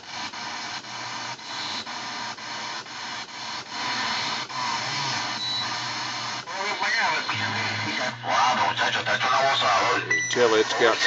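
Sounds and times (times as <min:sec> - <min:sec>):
radio static hissing: 0:00.0 - 0:11.0.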